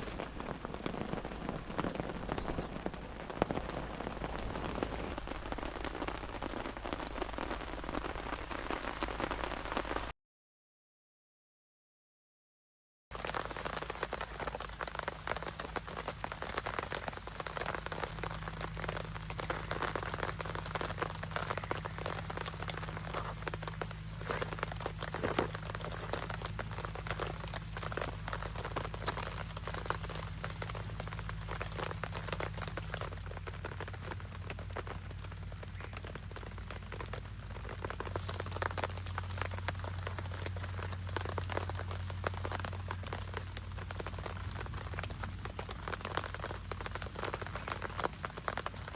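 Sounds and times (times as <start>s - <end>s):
rain pattering: 0.0s - 10.1s, 13.1s - 48.9s.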